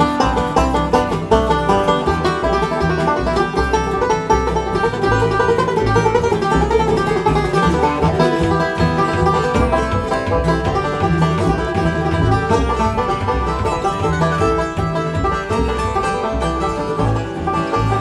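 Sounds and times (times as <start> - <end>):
banjo picking: 0.0 - 18.0
bluegrass band playing: 0.0 - 18.0
plucked upright bass: 0.0 - 18.0.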